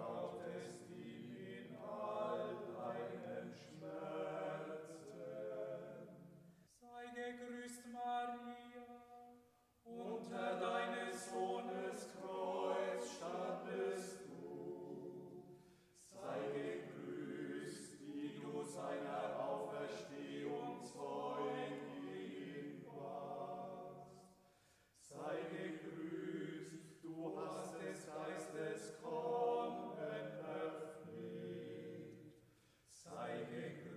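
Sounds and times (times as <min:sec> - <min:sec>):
unaccompanied choir singing a hymn: 0:00.0 - 0:09.0, 0:09.8 - 0:33.9.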